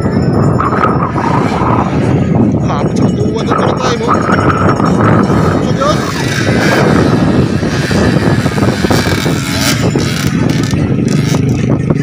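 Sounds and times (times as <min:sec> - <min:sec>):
dirt bike engines running: 0:00.0 - 0:12.0.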